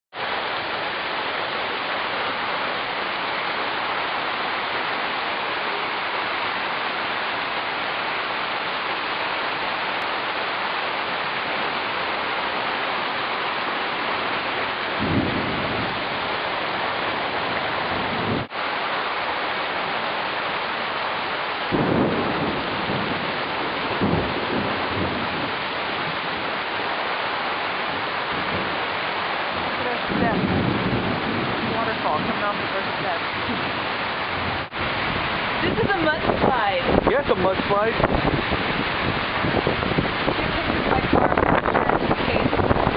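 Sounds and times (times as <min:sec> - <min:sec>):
heavy rain roaring: 0:00.1 - 0:42.9
storm water rushing: 0:00.1 - 0:42.9.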